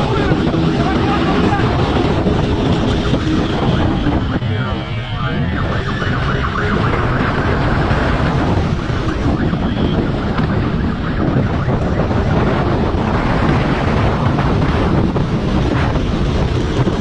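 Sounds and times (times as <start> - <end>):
vehicle running noise: 0.0 - 17.0
wind rushing over microphone: 0.0 - 17.0.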